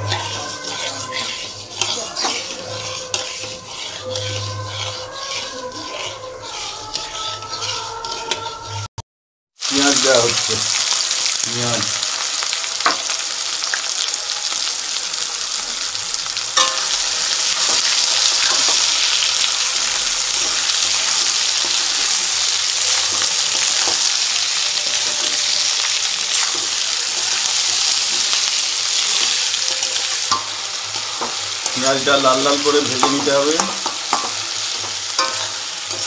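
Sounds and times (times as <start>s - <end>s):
onions sizzling in hot oil: 0.0s - 8.9s, 9.6s - 36.0s.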